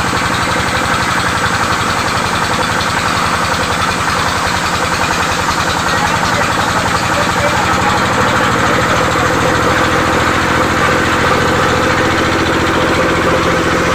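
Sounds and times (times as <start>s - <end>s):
saw engine idling: 0.0s - 13.9s.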